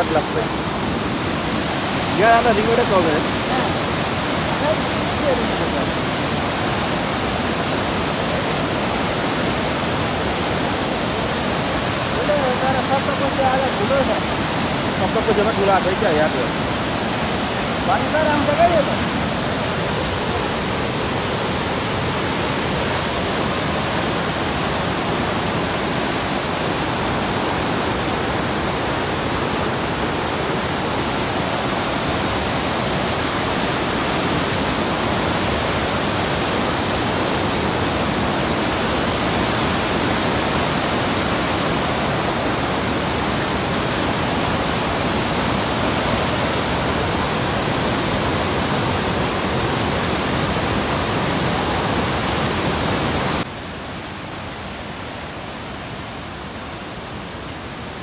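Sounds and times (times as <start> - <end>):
flooded river rushing: 0.0 - 58.0.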